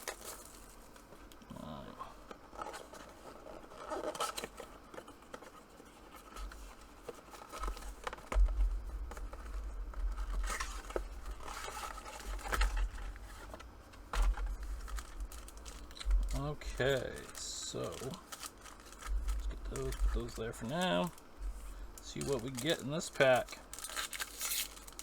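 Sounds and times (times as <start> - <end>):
cardboard and plastic wrap tearing: 2.5 - 8.5, 9.1 - 21.2, 22.0 - 25.0.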